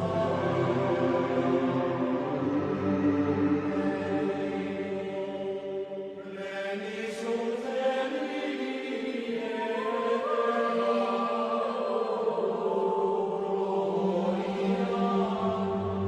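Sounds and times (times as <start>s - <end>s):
choir-like chanting voices: 0.0s - 16.0s.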